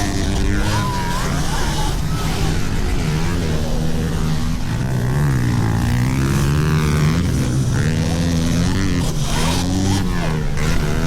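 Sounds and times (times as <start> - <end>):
small motorbike engines revving: 0.0 - 11.0.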